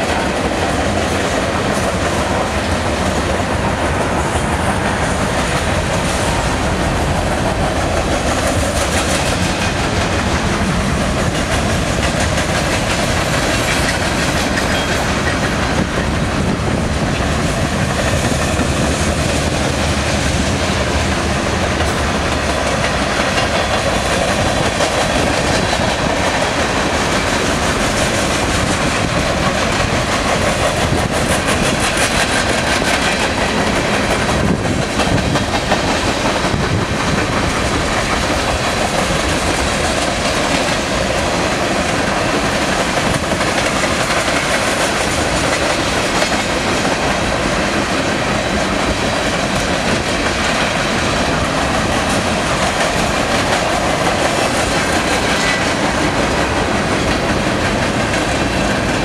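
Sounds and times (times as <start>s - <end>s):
train wheels clicking over rail joints: 0.0s - 59.0s
wind buffeting microphone: 0.0s - 59.0s.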